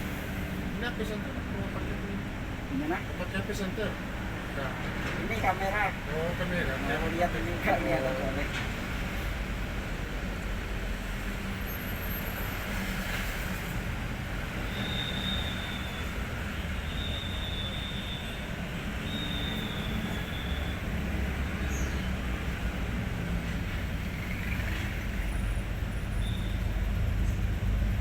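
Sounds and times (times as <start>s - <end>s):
truck diesel engine rumbling: 0.0s - 12.1s, 13.8s - 28.0s.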